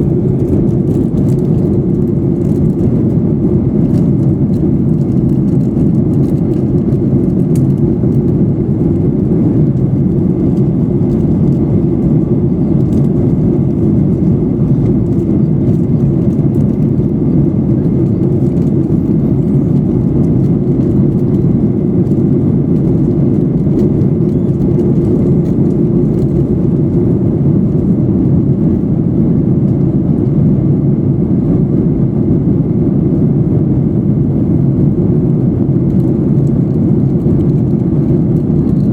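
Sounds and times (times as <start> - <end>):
airplane cabin noise: 0.0 - 38.9.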